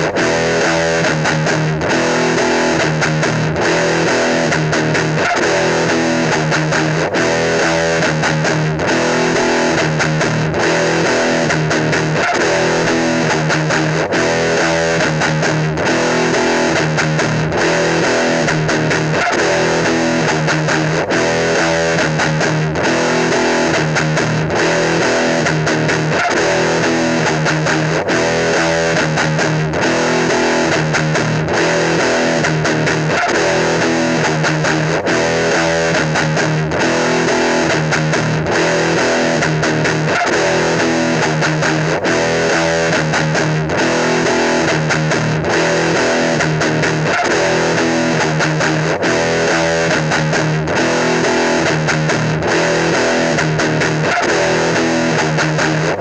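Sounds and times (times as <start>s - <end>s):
rock music with electric guitar: 0.0s - 56.0s.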